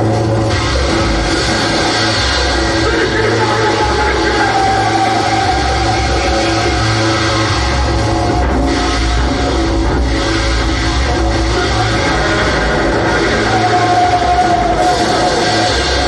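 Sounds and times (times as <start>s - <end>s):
loud metal music: 0.0s - 16.0s.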